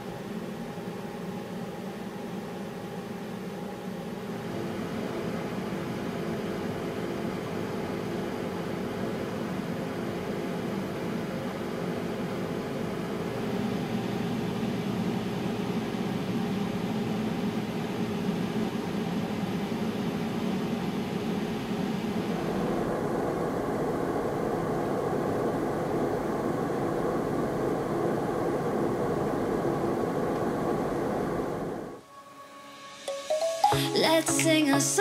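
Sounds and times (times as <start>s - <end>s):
server fans roaring: 0.0s - 35.0s.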